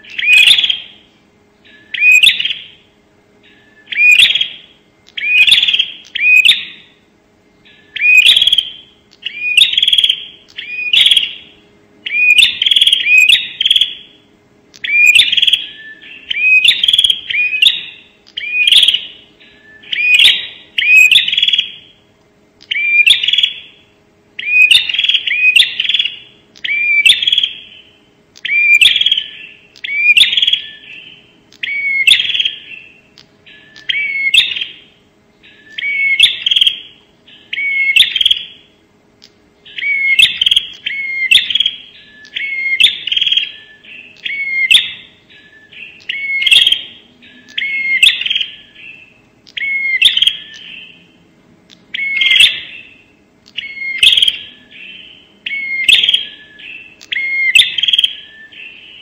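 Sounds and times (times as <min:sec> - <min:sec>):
bird chirping in sharp bursts: 0:00.0 - 0:51.2, 0:51.8 - 0:59.0.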